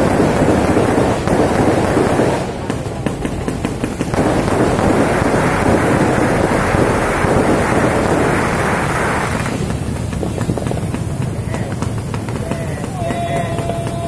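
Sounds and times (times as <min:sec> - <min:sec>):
fireworks bursts rumbling: 0:00.0 - 0:14.0
fireworks crackling: 0:00.0 - 0:14.0.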